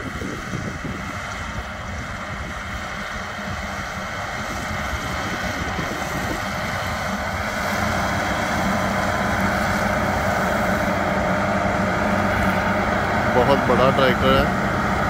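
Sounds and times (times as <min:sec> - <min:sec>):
tractor running with mower: 0:00.0 - 0:15.0.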